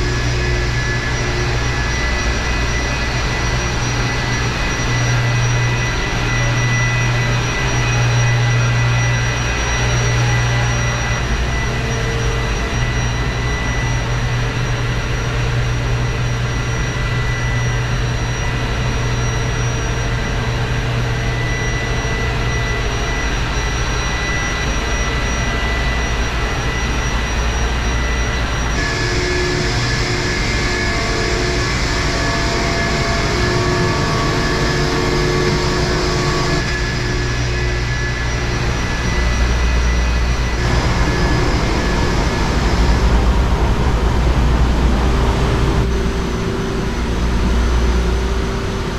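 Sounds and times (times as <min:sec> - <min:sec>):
engine room machinery hum: 0:00.0 - 0:48.9
machinery whining tones: 0:00.0 - 0:48.9.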